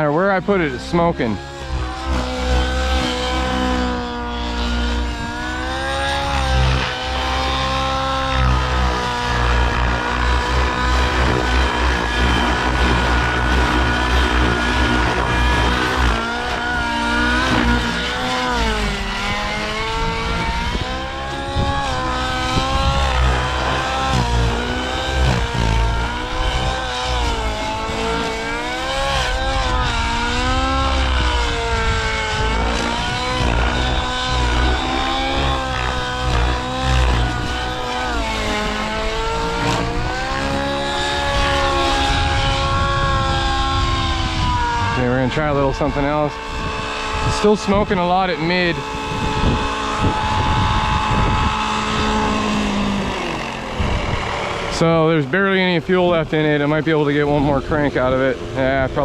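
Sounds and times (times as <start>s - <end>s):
model helicopter engine and rotors: 0.0s - 59.0s.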